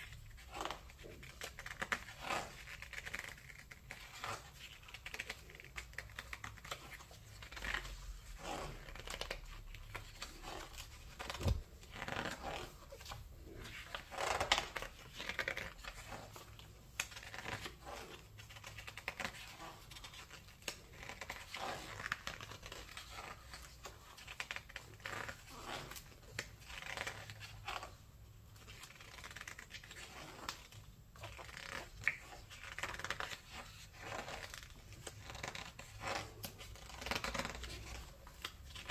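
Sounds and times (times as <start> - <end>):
book pages turning: 0.0 - 38.9.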